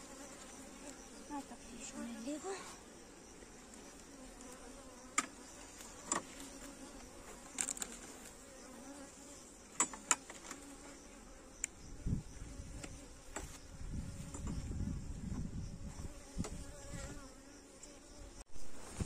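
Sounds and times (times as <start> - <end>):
bees humming: 0.0 - 18.8.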